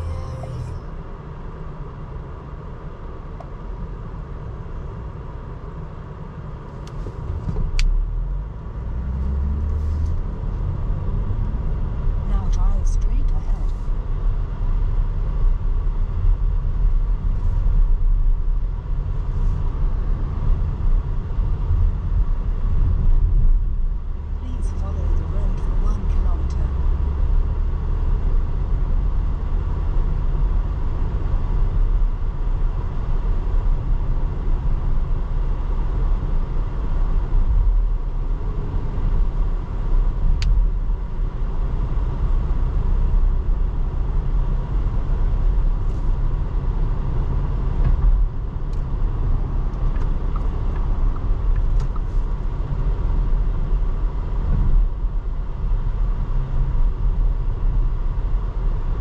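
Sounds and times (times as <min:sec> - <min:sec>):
engine and road noise rumble: 0:00.0 - 0:59.0.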